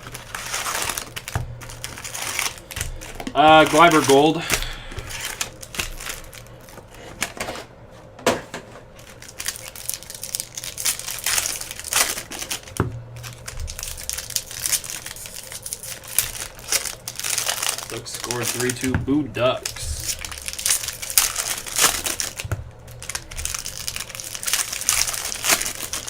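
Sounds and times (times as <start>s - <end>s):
foil wrappers crinkling: 0.0s - 7.7s, 8.8s - 26.0s.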